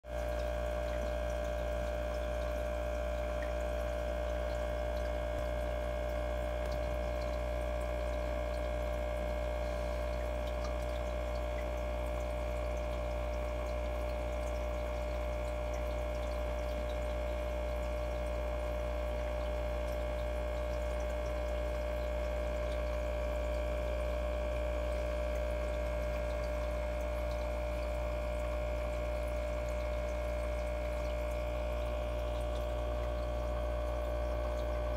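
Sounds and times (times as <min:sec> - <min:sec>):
filter motor hum: 0:00.0 - 0:34.9
water trickling and splashing: 0:00.0 - 0:34.9.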